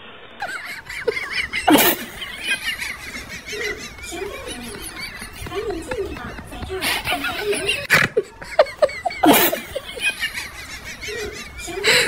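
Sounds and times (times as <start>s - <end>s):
people laughing: 0.4s - 12.0s.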